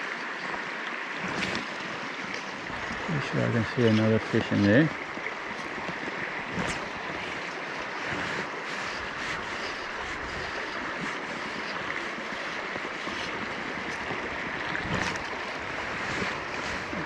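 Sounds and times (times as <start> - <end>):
river water over stones: 0.0 - 17.0.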